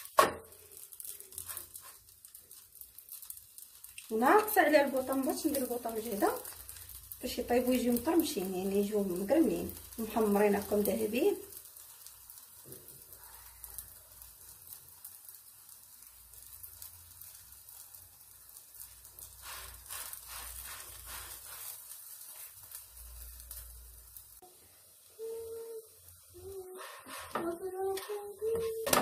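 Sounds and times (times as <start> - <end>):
flatbread sizzling in a pan: 0.0 - 29.0.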